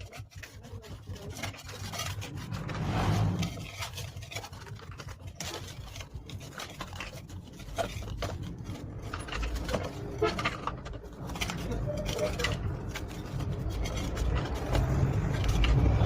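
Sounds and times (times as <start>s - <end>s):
scraping and rubbing: 0.0s - 16.0s.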